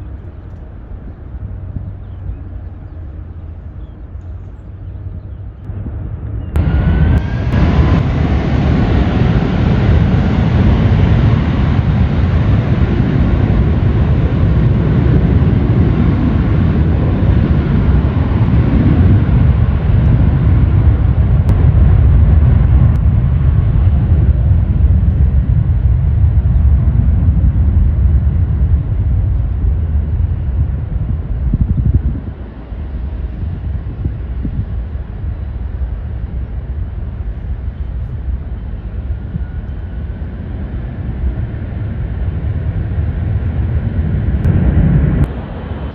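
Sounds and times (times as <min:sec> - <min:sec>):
jet engines rumbling with hiss: 0:00.0 - 0:45.9.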